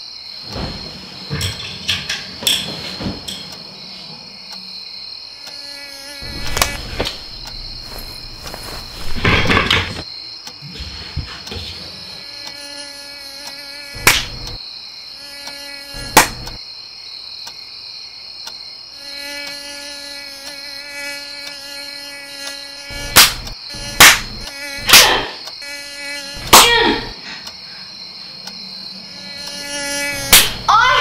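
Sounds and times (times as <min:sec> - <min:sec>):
mosquito whine: 0:02.4 - 0:16.6, 0:18.9 - 0:31.0.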